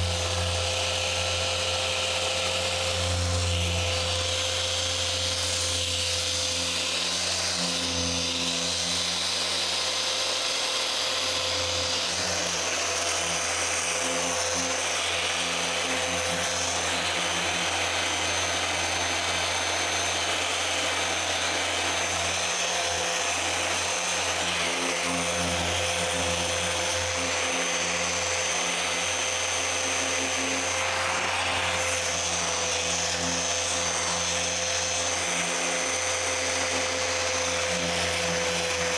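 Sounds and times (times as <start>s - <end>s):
car polisher motor whine: 0.0s - 38.9s.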